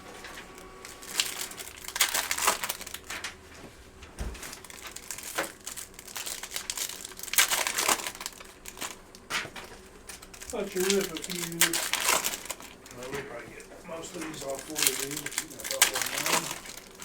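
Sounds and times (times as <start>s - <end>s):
wrappers crinkling and tearing: 0.1s - 17.0s.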